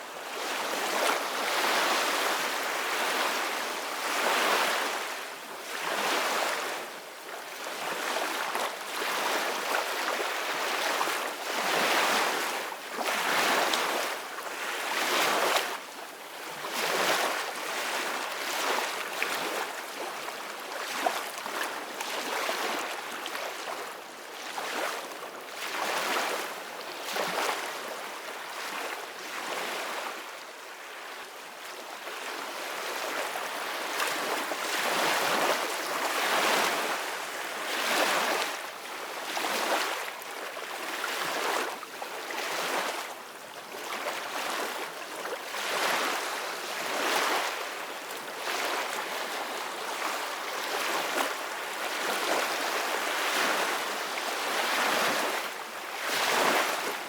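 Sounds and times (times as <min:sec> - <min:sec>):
wind: 0:00.0 - 0:57.0.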